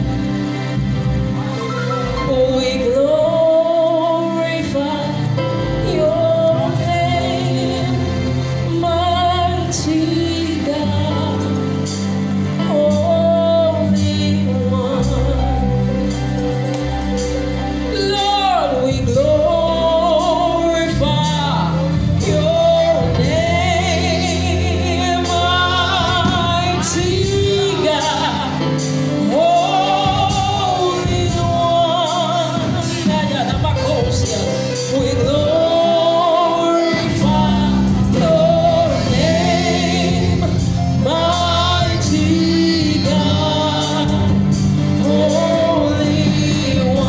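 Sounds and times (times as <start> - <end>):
instrumental backing: 0.0 - 47.0
woman singing with vibrato: 2.0 - 16.2, 17.8 - 47.0.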